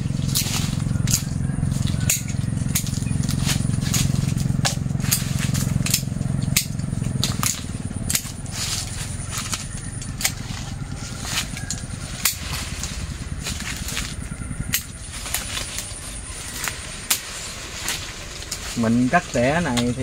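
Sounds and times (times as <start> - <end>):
low rumble: 0.0 - 20.0
twigs snapping and clicking: 0.2 - 18.8.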